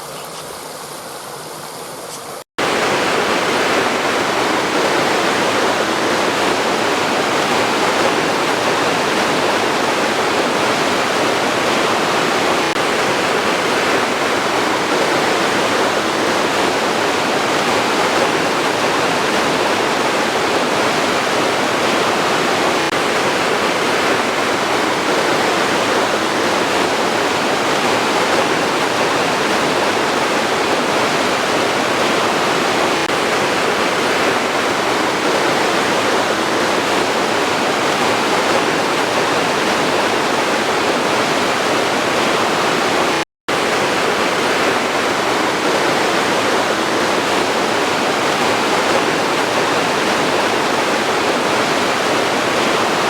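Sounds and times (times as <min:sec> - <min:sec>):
waterfall rushing: 0:02.6 - 0:53.0.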